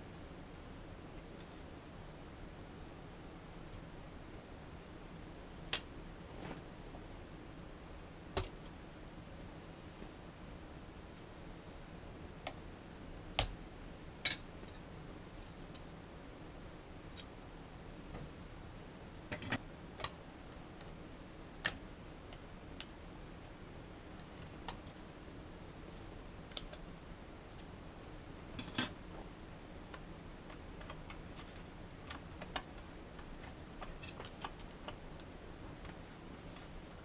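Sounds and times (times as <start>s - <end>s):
faint room hiss: 0.0s - 37.0s.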